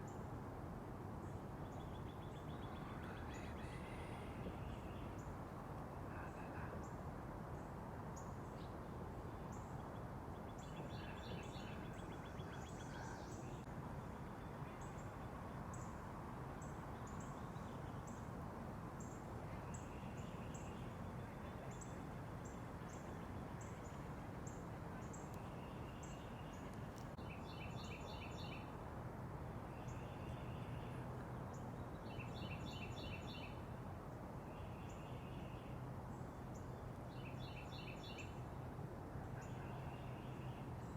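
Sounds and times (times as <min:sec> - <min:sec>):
songbirds chirping: 0:01.1 - 0:40.9.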